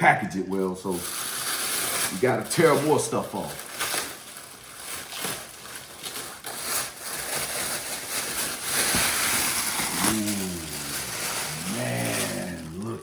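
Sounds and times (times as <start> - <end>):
packaging tearing and crinkling: 0.6 - 13.0.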